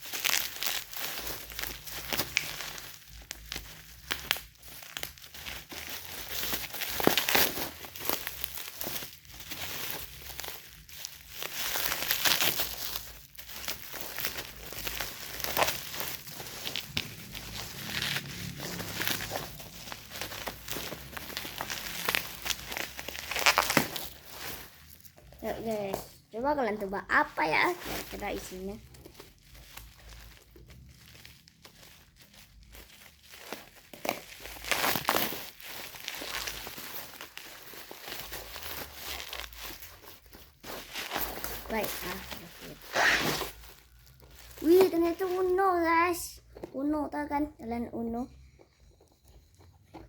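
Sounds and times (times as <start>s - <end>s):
packaging crinkling and rustling: 0.0s - 46.9s.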